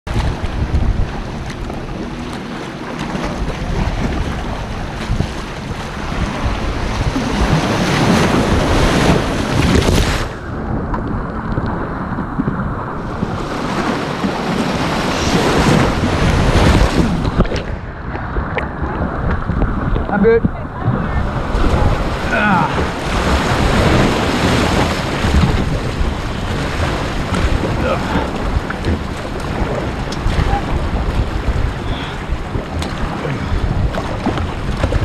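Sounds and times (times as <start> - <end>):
wind buffeting microphone: 0.0 - 35.0
ocean waves washing through rocks: 0.1 - 35.0.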